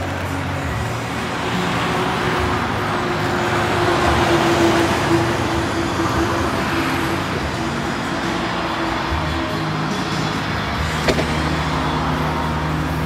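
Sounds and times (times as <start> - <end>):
engine running: 0.0 - 13.0
road traffic: 0.0 - 13.0.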